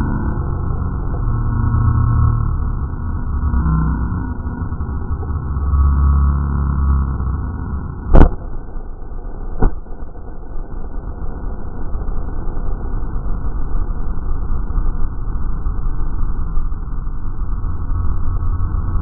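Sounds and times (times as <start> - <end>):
background rumble: 0.0 - 19.0.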